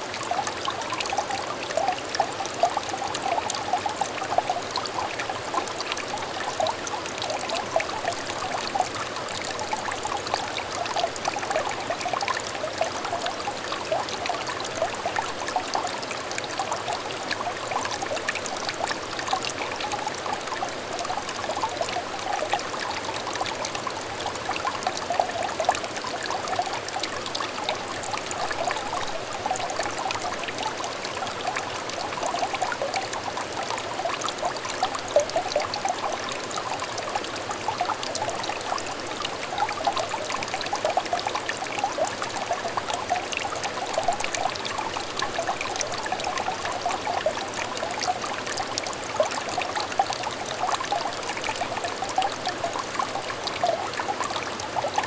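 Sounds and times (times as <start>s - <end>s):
stream trickling over stones: 0.0s - 55.0s.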